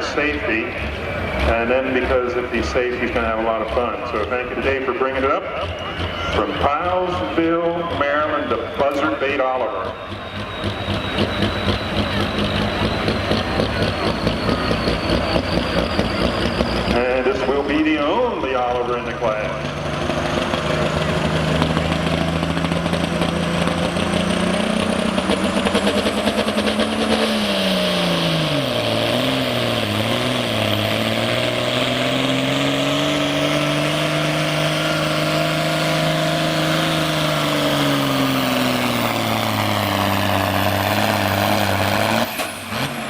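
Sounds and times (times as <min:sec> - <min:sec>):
tractor engine running under load: 0:00.0 - 0:43.0.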